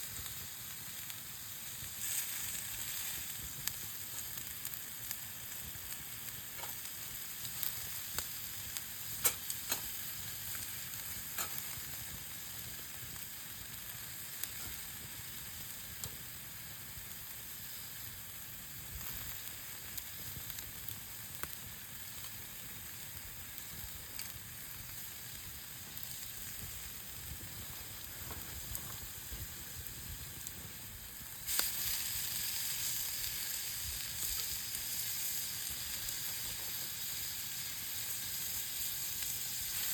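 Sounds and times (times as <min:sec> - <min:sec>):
fire pops and crackles: 0:00.0 - 0:39.9
meat sizzling over fire: 0:00.0 - 0:39.9.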